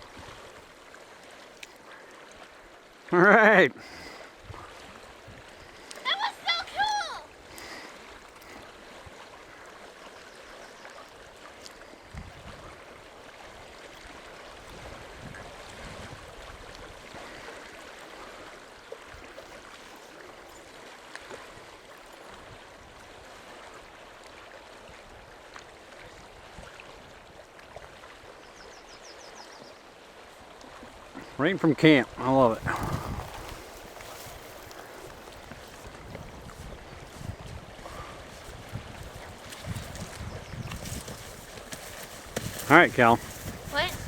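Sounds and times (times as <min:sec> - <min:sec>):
water washing at shore: 0:00.0 - 0:44.0.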